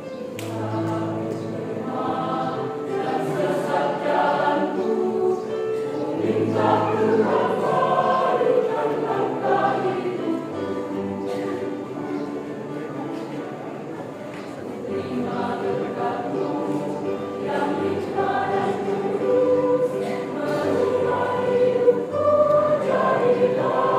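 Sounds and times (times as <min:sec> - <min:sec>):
church choir singing a hymn: 0:00.0 - 0:23.9.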